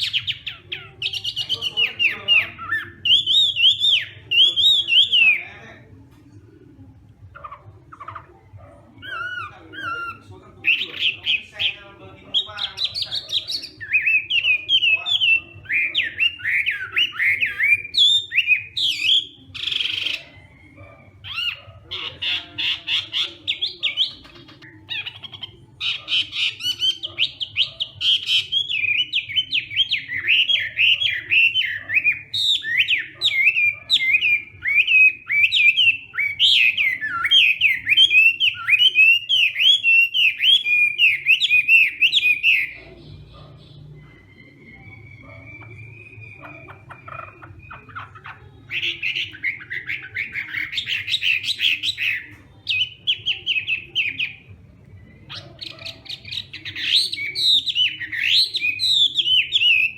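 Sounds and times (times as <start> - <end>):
bird singing whistled song: 0.0 - 5.7, 8.1 - 59.9.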